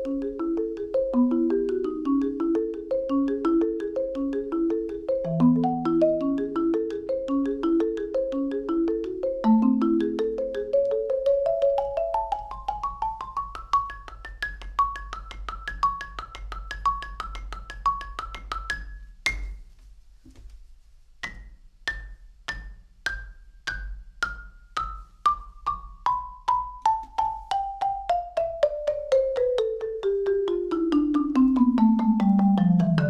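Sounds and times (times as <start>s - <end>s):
marimba notes: 0.0s - 19.6s, 21.2s - 33.0s.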